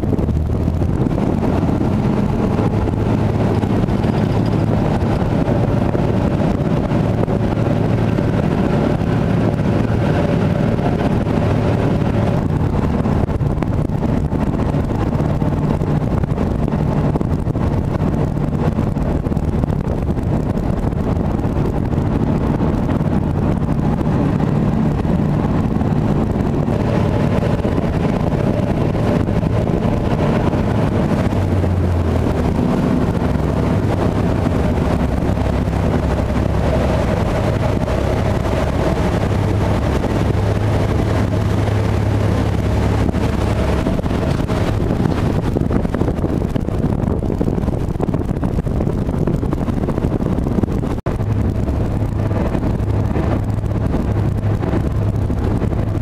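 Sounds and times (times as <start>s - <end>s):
ferry engines droning: 0.0s - 56.0s
water rushing in wake: 0.0s - 56.0s
wind buffeting microphone: 0.0s - 56.0s.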